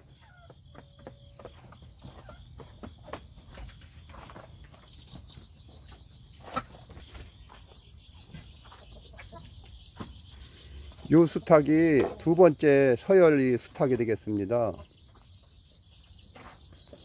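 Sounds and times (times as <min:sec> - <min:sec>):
chickens pecking and scratching: 0:00.0 - 0:17.0
faint high chirps: 0:00.0 - 0:17.0.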